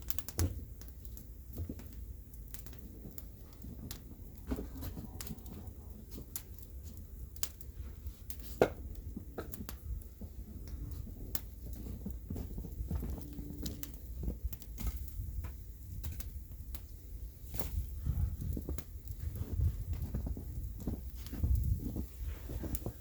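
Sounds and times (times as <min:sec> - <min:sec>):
bonfire crackling and popping: 0:00.0 - 0:23.0
steady low rumble: 0:00.7 - 0:23.0.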